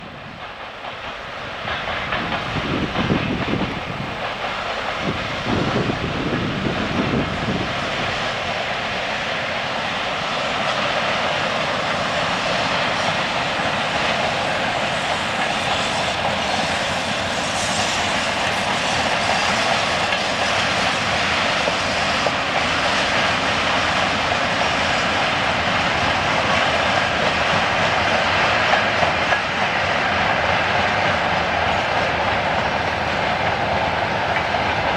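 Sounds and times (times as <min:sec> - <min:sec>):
freight train rumbling on rails: 0:00.0 - 0:34.9.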